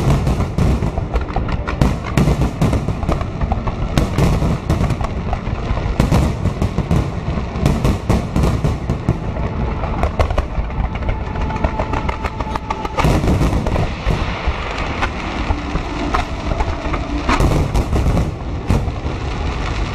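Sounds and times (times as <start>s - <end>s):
fireworks bangs and crackles: 0.0s - 19.9s
low rumble: 0.0s - 19.9s.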